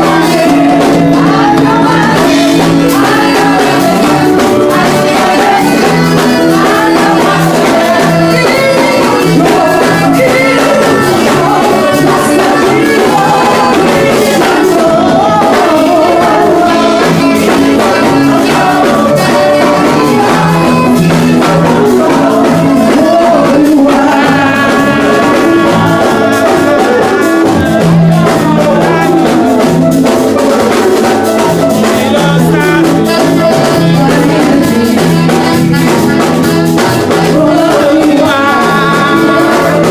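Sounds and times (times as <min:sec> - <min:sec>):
person singing over music: 0:00.0 - 0:39.9
repeating bass line: 0:00.0 - 0:39.9.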